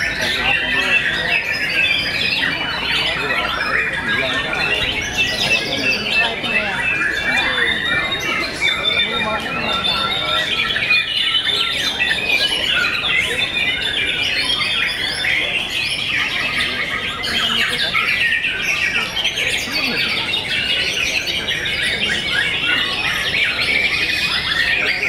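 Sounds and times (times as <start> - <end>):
birds whistling and chirping: 0.0 - 25.0.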